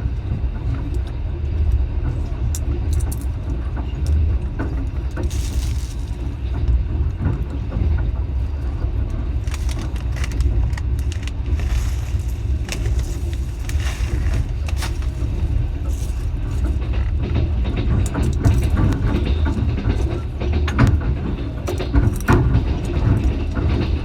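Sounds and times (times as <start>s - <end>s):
train rumbling: 0.0s - 24.0s
clicks and rattles: 0.7s - 24.0s.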